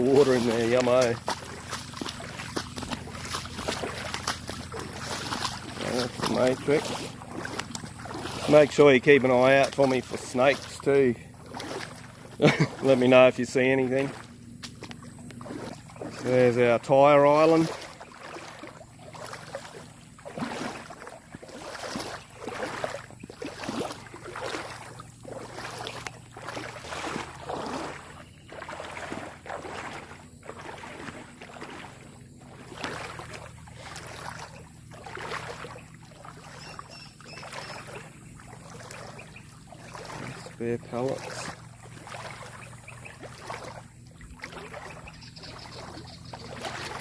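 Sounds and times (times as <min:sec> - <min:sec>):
footsteps sloshing through water: 0:00.0 - 0:47.0.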